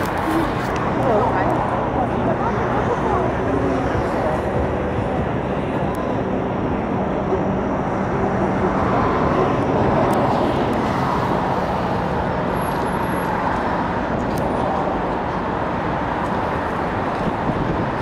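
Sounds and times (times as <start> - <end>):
passing cars: 0.0 - 18.0.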